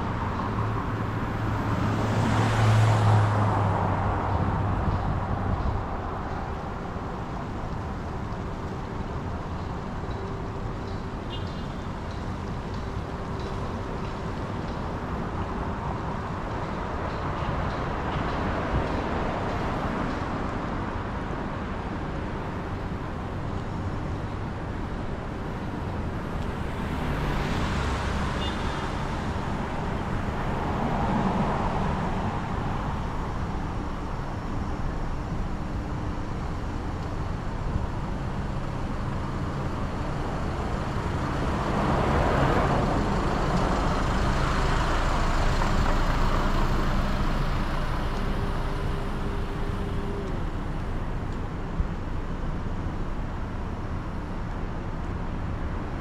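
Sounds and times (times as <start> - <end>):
steady road traffic: 0.0 - 56.0
vehicles passing close by: 0.0 - 56.0.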